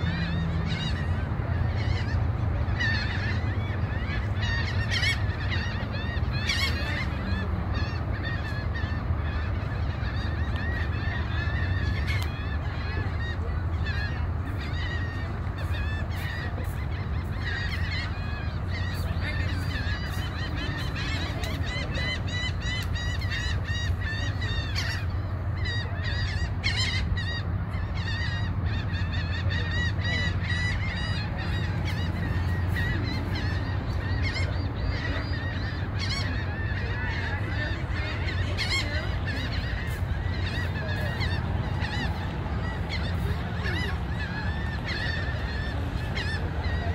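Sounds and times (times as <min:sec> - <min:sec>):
waterbirds honking and squawking: 0:00.0 - 0:46.9.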